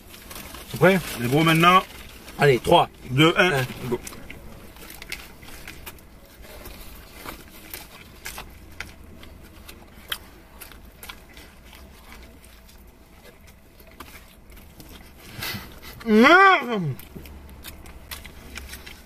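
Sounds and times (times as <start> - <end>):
chewing and biting: 0.0 - 19.0.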